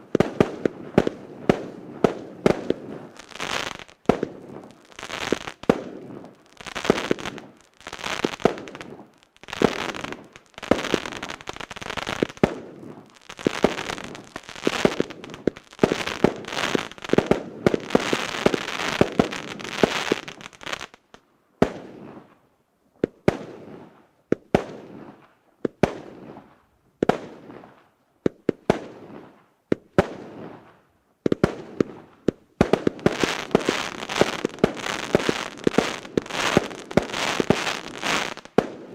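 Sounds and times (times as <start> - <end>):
crackling firework bursts: 0.0 - 22.4, 23.3 - 38.9.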